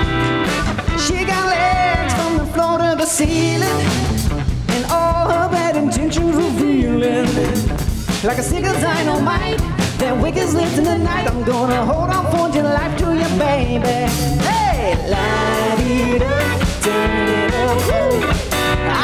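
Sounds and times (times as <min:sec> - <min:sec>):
disco band playing: 0:00.0 - 0:19.0
woman singing lead: 0:00.9 - 0:04.1, 0:04.7 - 0:19.0.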